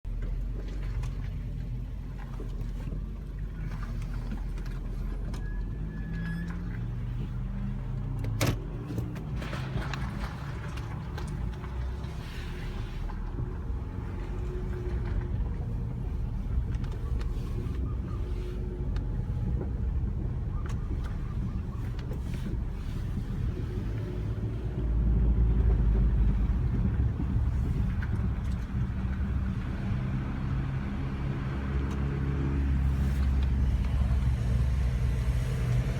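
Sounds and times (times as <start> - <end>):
car engine and road rumble: 0.0 - 35.9.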